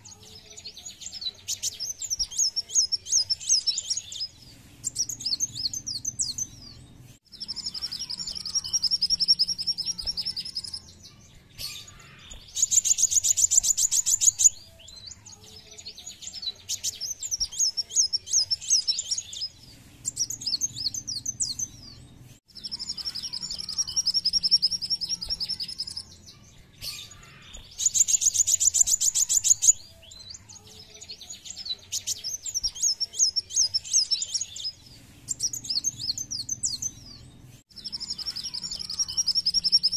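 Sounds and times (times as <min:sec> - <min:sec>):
sunbird singing rapid trills: 0:00.0 - 0:39.9.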